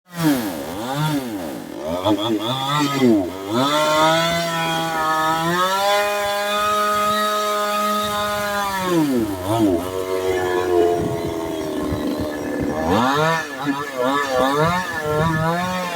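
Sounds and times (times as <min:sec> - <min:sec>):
chainsaw engine revving: 0:00.1 - 0:15.9.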